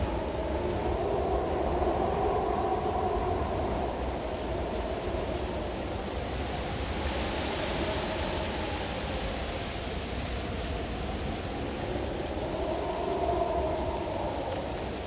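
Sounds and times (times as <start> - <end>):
howling wind: 0.0 - 15.0.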